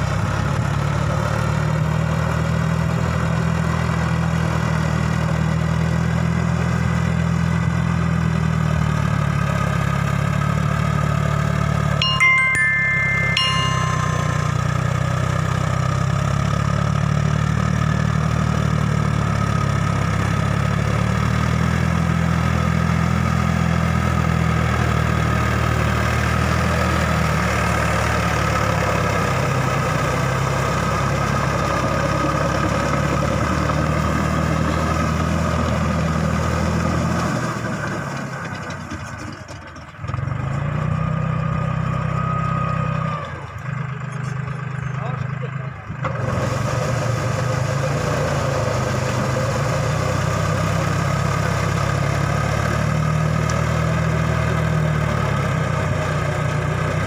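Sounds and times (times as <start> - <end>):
tractor diesel engine under load: 0.0 - 12.0, 15.1 - 57.0.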